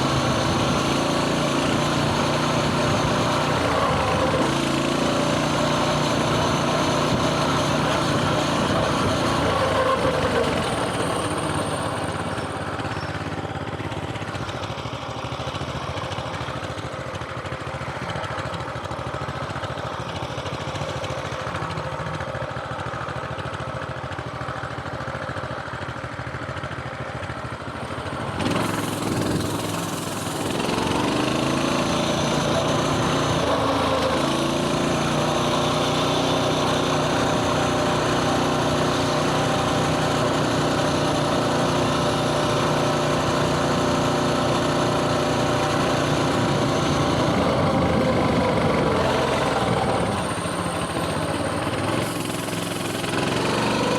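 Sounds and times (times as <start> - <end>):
mini bike engine running: 0.0 - 53.9.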